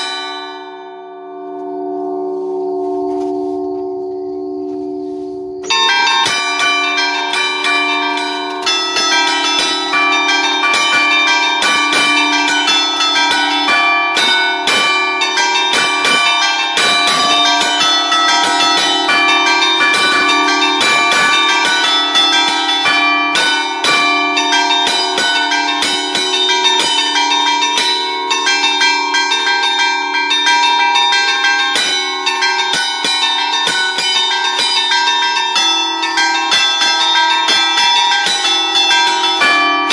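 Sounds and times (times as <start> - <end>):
bells ringing in rhythmic patterns: 0.0 - 39.9.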